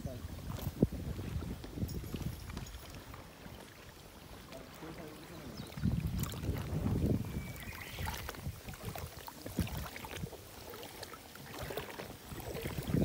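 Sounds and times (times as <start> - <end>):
water sloshing and lapping: 0.0 - 13.0.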